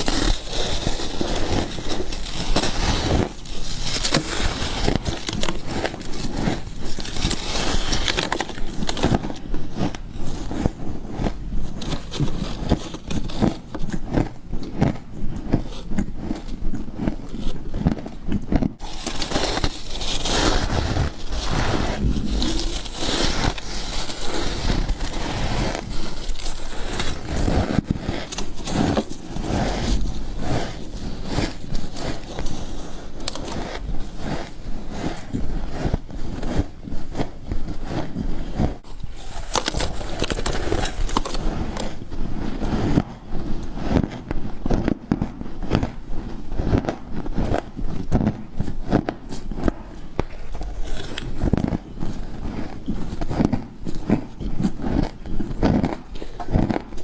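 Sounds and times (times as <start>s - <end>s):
frost crunching while chewed: 0.0s - 38.0s, 38.9s - 43.0s, 44.0s - 57.0s.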